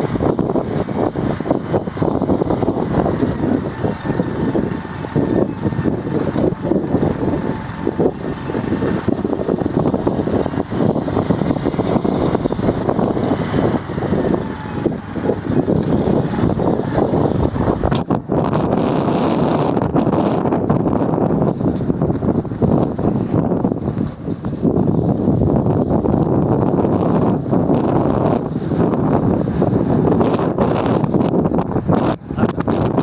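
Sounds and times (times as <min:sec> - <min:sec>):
motorcycle engine and tyres: 0:00.0 - 0:33.0
wind buffeting microphone: 0:00.0 - 0:33.0.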